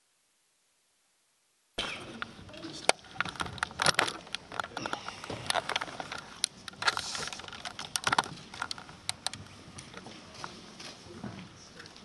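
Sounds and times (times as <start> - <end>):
bustling room: 1.8 - 12.0.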